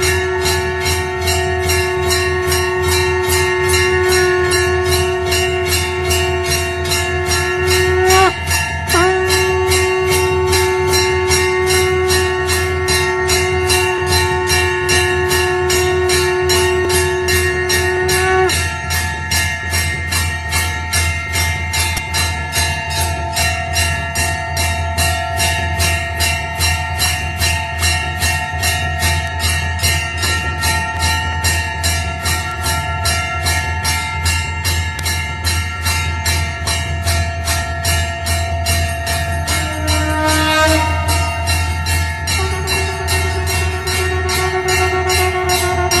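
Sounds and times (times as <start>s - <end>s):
temple bells ringing: 0.0s - 46.0s.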